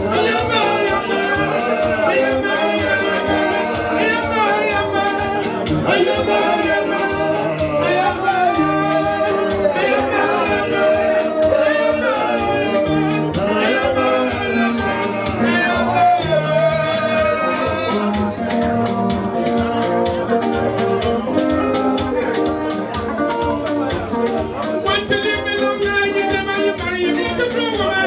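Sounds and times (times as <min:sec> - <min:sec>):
electric guitar: 0:00.0 - 0:28.0
man singing through microphone: 0:00.0 - 0:28.0
steady beat: 0:00.0 - 0:28.0.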